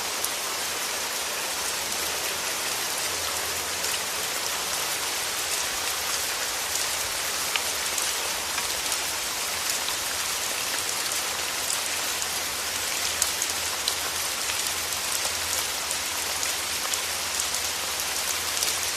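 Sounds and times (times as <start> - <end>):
steady rainfall: 0.0 - 18.9.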